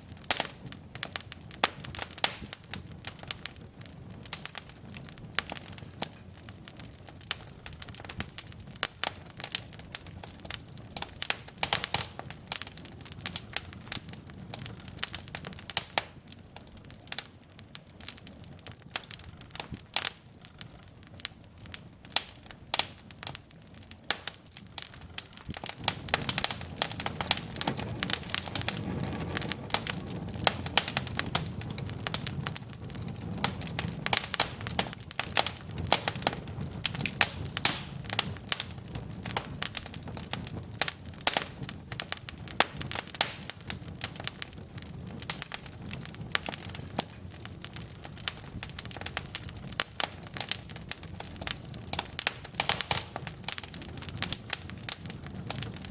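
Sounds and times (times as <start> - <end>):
logs crackling and popping: 0.0 - 55.9
low rush of flame: 0.0 - 55.9.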